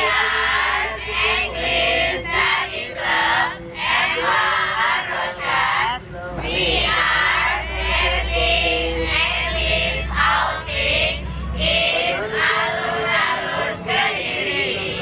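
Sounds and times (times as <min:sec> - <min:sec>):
high voices singing together: 0:00.0 - 0:15.0
low steady hum: 0:00.0 - 0:15.0.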